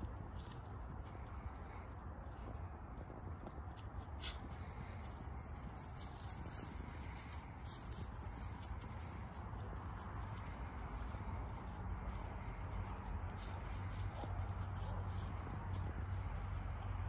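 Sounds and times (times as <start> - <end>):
rustling of dry leaves: 0.0 - 17.0
steady low rumble: 0.0 - 17.0.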